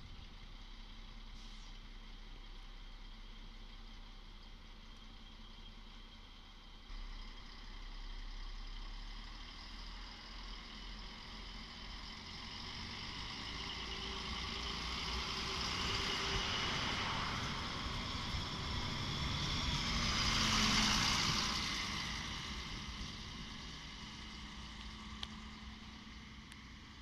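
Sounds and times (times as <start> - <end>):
diesel train approaching: 0.0 - 27.0.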